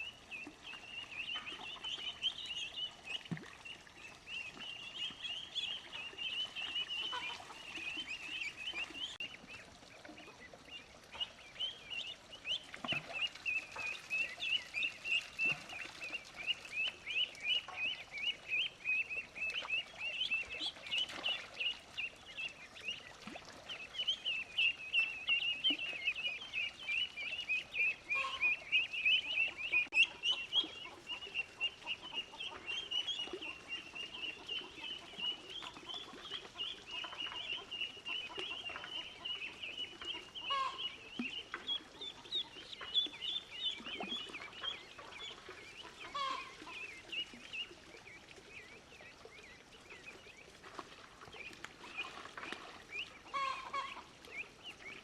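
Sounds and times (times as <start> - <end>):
chickens peeping and clucking: 0.0 - 55.0.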